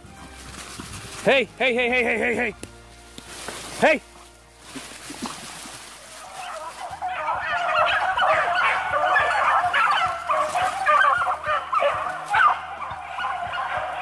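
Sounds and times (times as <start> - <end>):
beagles baying: 0.0 - 14.0.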